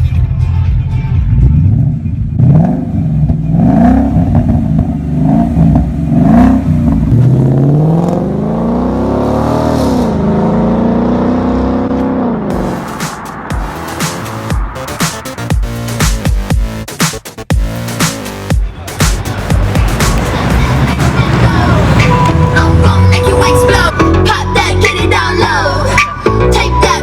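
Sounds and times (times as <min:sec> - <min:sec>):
car engine revving: 0:01.1 - 0:27.0.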